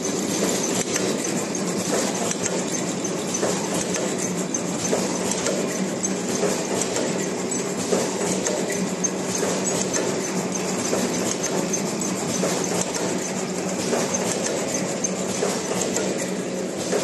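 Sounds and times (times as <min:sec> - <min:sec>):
packaging machine clatter: 0:00.0 - 0:17.0.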